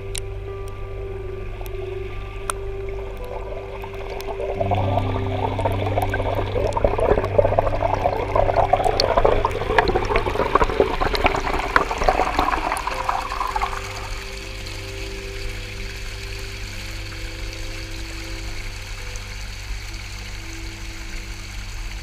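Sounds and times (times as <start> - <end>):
low background music: 0.0 - 22.0
water splashing over rocks: 0.0 - 22.0.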